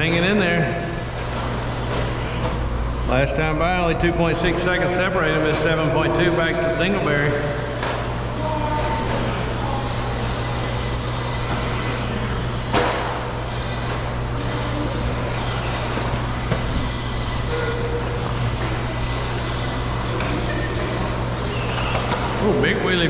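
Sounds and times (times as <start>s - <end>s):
electric toy truck motors whining: 0.0s - 3.0s, 4.5s - 23.0s
steady low hum: 0.0s - 23.0s.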